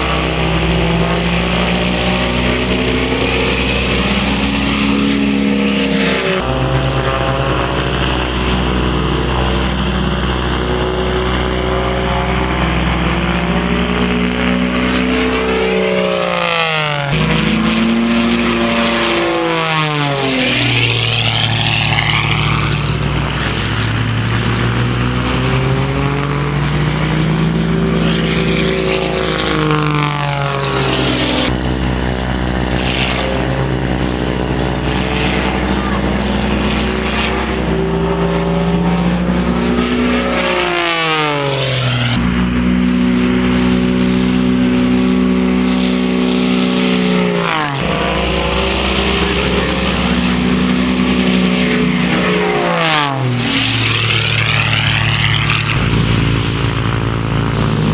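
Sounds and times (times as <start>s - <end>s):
aerobatic plane engine at full power: 0.0s - 57.9s.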